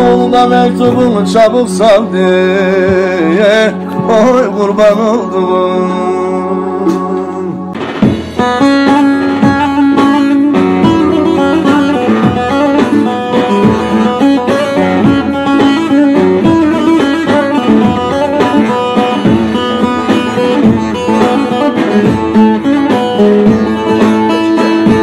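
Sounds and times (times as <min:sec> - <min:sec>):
plucked lute fast notes: 0:00.0 - 0:25.0.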